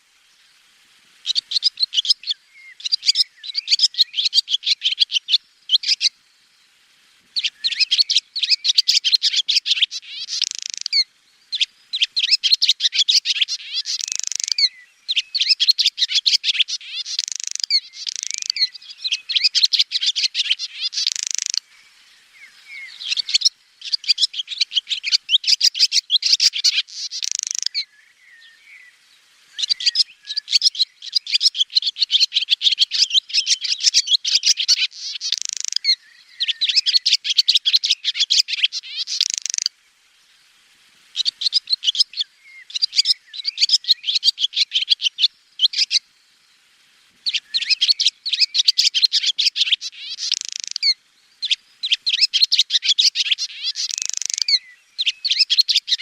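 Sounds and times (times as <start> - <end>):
swallow twittering: 1.2 - 6.2, 7.4 - 39.7, 41.1 - 46.0, 47.2 - 56.0.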